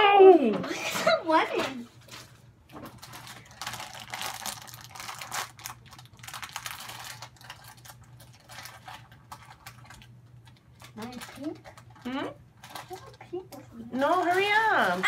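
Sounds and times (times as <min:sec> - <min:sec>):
plastic packaging crinkling: 0:01.9 - 0:15.0.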